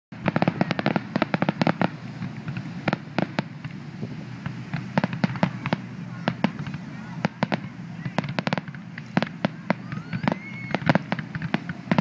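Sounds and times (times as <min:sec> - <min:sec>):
fireworks bangs and pops: 0:00.1 - 0:12.0.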